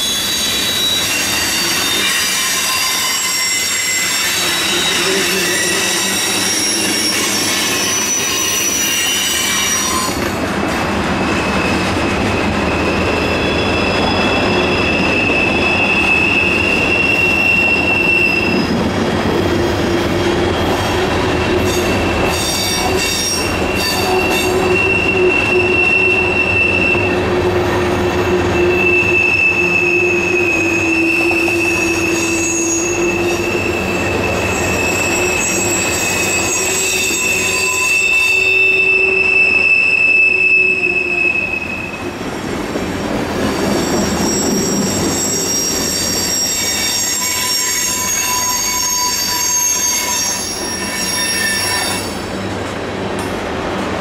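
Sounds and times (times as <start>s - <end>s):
high wheel squeal: 0.0s - 10.4s, 11.2s - 42.2s, 43.3s - 52.5s
train wheels rumbling on rail: 0.0s - 54.0s.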